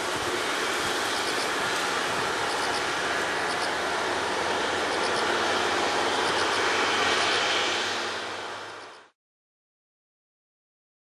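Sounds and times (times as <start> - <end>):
jet engines roaring: 0.0 - 9.2.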